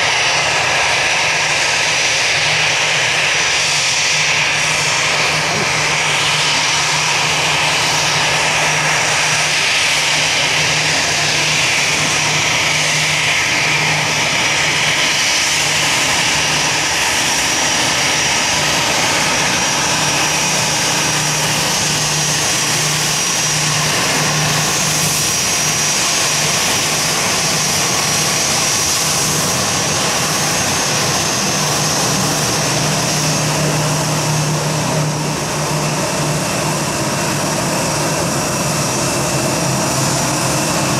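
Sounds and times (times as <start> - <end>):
jet engines whining: 0.0 - 40.9.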